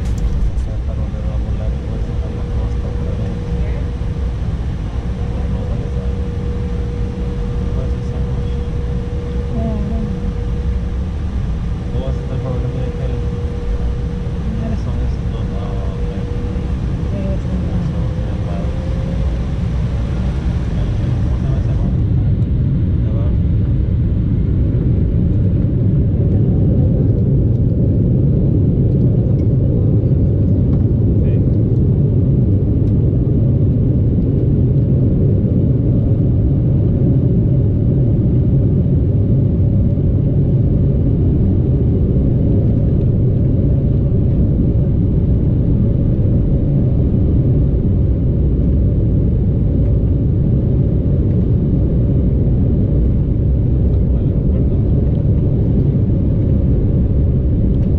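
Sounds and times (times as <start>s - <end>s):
aircraft cabin low rumble: 0.0s - 57.9s.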